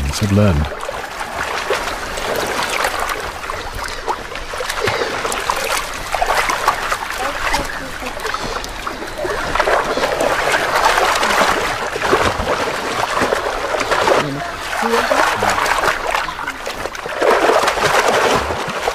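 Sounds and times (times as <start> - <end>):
pelicans splashing in water: 0.0 - 18.9.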